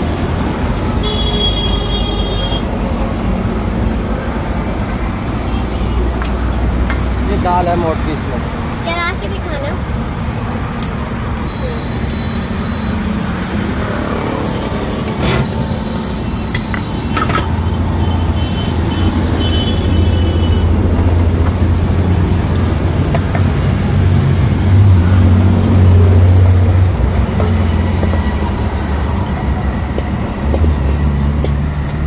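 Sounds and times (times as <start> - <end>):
vehicle engines running: 0.0 - 32.0.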